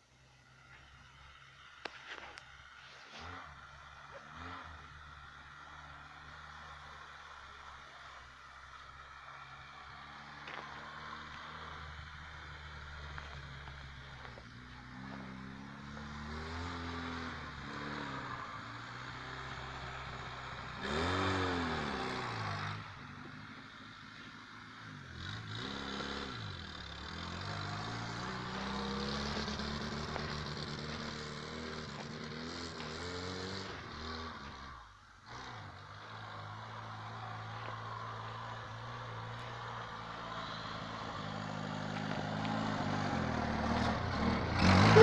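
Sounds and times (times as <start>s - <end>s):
car engine revving: 0.6s - 45.0s.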